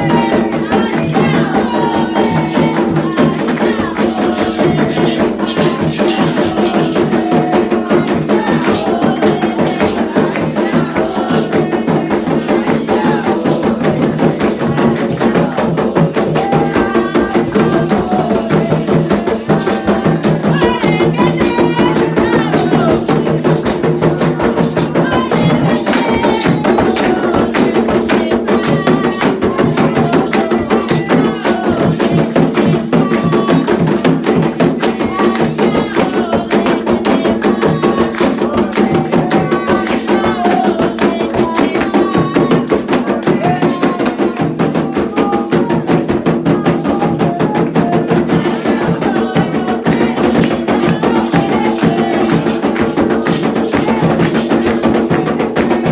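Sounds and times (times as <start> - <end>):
fast drum rhythm: 0.0 - 55.9
voices chanting: 0.0 - 55.9.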